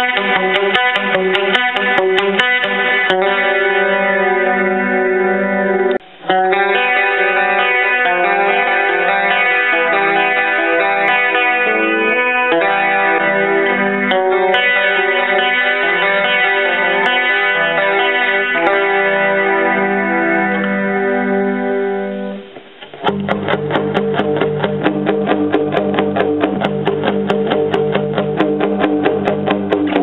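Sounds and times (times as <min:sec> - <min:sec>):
clean electric guitar strummed chords: 0:00.0 - 0:30.0.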